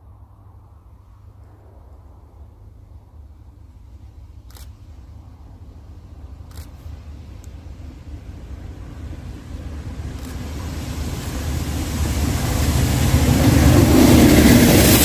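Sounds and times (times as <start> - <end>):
train engine rumble: 0.0 - 15.0.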